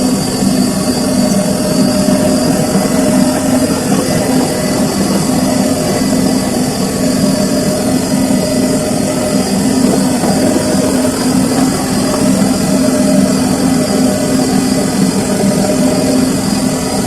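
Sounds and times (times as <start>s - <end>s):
washing machine humming: 0.8s - 17.0s.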